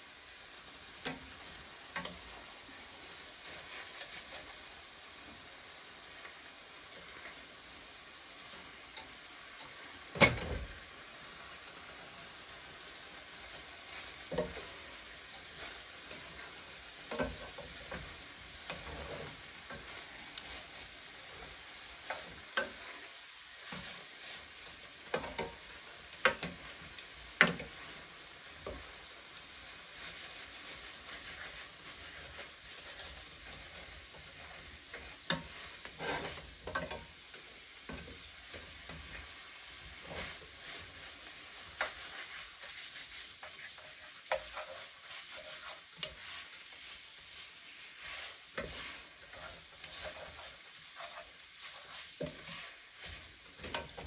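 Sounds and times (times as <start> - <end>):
noodles sizzling in a pan: 0.0 - 54.0
utensil scraping against pan: 3.1 - 4.8, 12.4 - 54.0.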